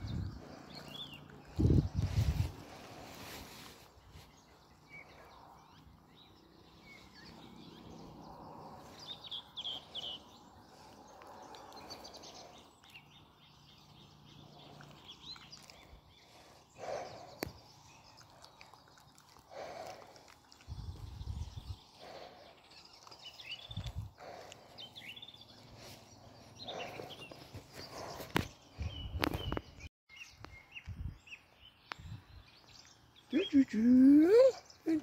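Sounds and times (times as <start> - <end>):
faint outdoor background noise: 0.0 - 35.0.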